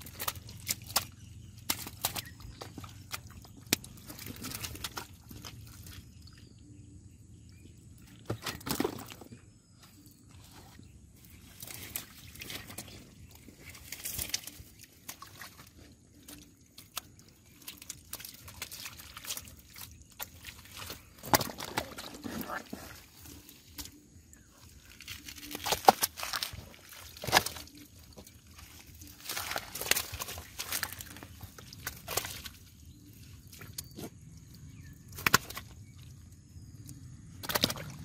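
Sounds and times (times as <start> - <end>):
wet fish slapping: 0.0 - 6.4, 11.6 - 24.0, 24.8 - 34.2, 35.0 - 38.0
wet mud squelching and sloshing: 0.0 - 38.0.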